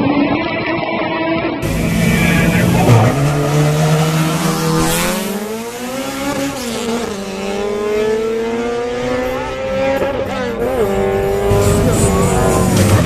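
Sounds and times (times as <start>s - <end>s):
car engines revving: 1.6s - 13.0s.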